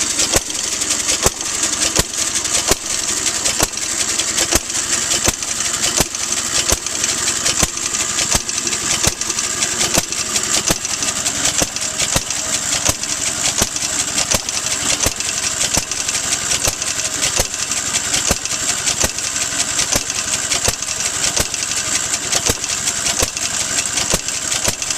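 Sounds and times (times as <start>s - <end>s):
engine clacking: 0.0s - 24.9s.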